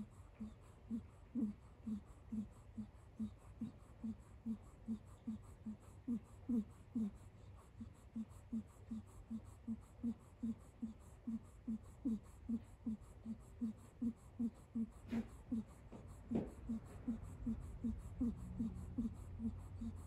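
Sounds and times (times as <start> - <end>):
kitten snoring: 0.0 - 20.0.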